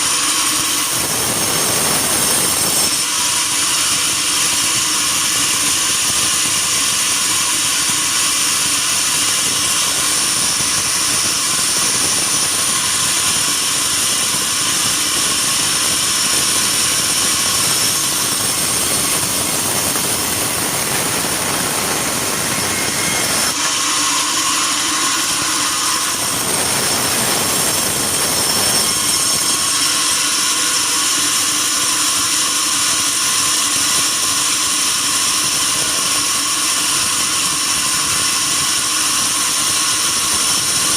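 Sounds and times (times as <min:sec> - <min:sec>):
bandsaw whining: 0:00.0 - 0:40.9.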